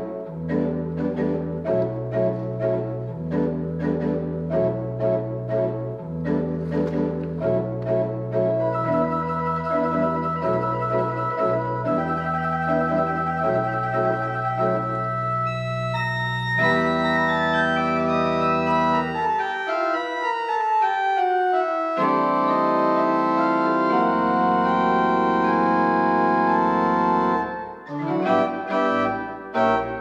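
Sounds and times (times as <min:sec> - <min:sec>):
church organ chords: 0:00.0 - 0:30.0
deep organ pedal bass: 0:00.0 - 0:30.0.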